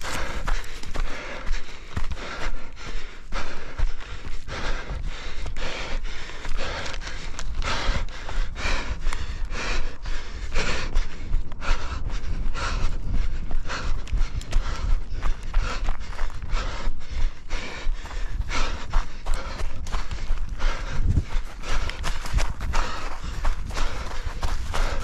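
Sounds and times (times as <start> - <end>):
runner panting hard: 0.0 - 25.0
running footsteps: 0.0 - 25.0.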